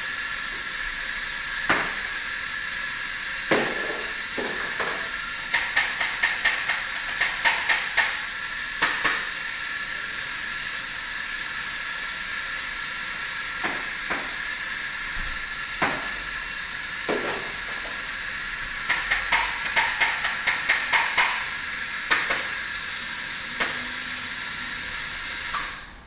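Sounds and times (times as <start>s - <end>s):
steam wand hissing: 0.0s - 25.9s.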